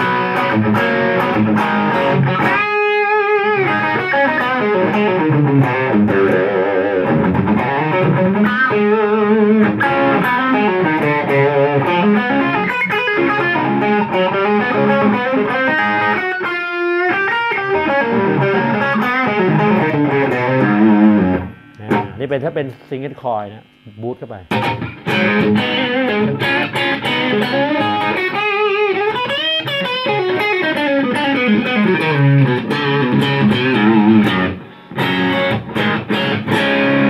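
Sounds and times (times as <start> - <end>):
distorted electric guitar: 0.0 - 37.0.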